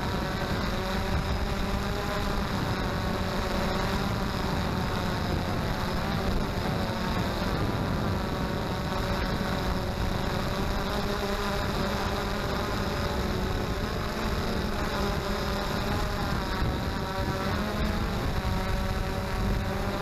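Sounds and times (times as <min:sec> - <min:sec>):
quadcopter propellers buzzing: 0:00.0 - 0:20.0
wind on microphone: 0:00.0 - 0:20.0.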